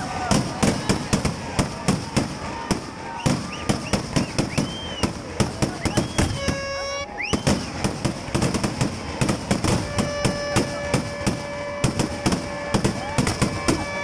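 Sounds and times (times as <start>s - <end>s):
rapid firecracker bangs: 0.0s - 14.0s.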